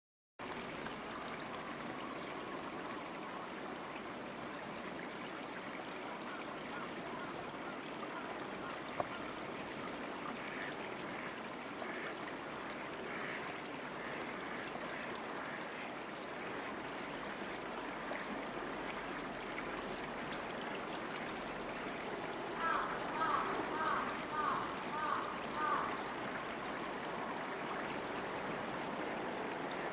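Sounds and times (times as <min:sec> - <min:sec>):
river water flowing: 0:00.4 - 0:29.9.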